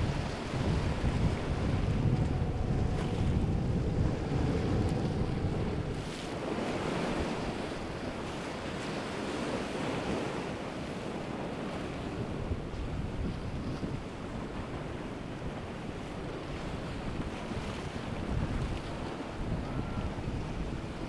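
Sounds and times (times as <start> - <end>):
waves washing: 0.0 - 21.0
wind rumbling on microphone: 0.0 - 21.0.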